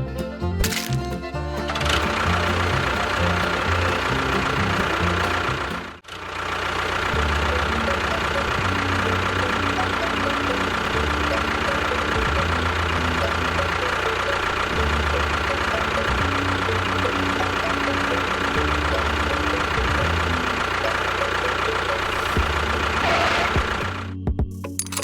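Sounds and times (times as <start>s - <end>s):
small motor whining: 1.6s - 24.1s.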